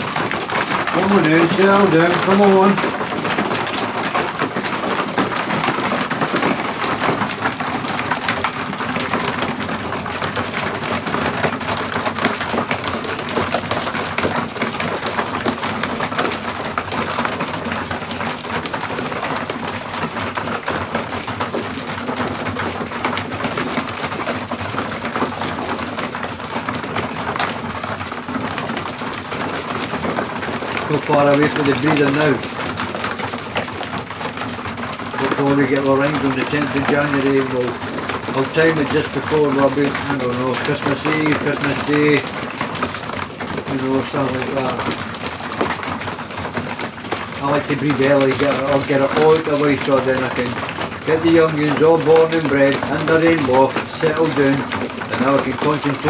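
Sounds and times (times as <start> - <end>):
clatter of wings and feet: 0.0 - 56.0.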